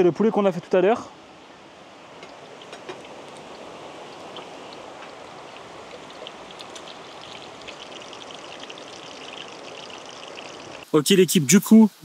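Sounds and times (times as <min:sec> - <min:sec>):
hot oil sizzling and crackling: 0:01.9 - 0:12.0.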